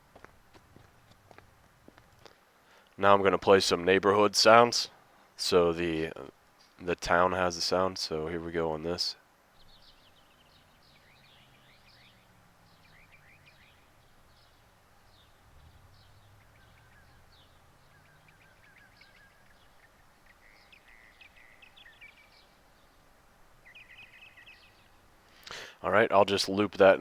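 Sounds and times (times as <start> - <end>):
small birds chirping: 4.5 - 27.0.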